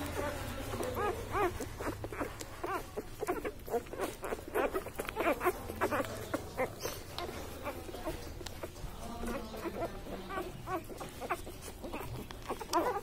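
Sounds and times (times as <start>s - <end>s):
puppies squeaking and whimpering: 0.0s - 13.0s
small clicking sounds: 0.0s - 13.0s.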